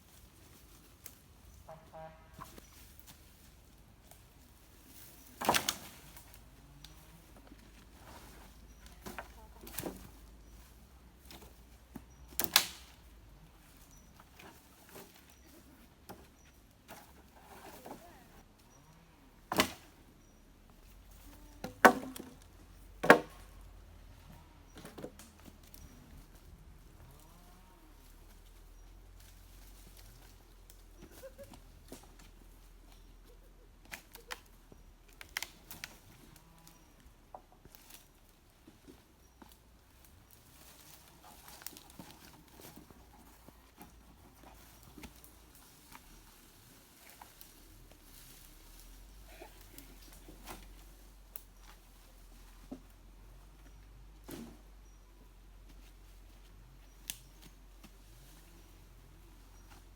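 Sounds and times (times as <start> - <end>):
rustles: 0.0 - 59.9.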